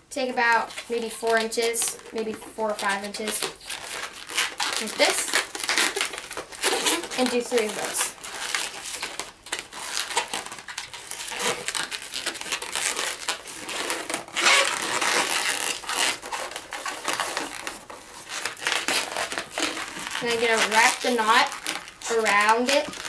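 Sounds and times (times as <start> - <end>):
balloon rubber rubbing and scraping: 0.2 - 23.0.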